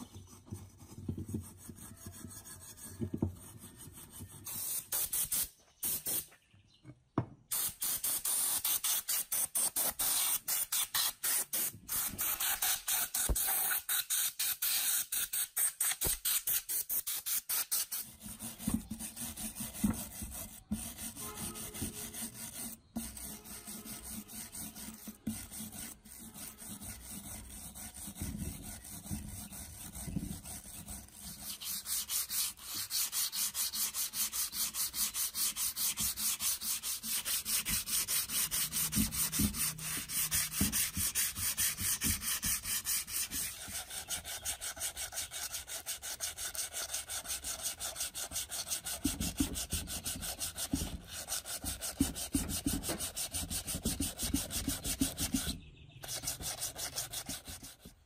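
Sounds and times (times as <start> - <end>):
sandpaper scrubbing rusty metal: 0.0 - 6.3, 7.5 - 58.0.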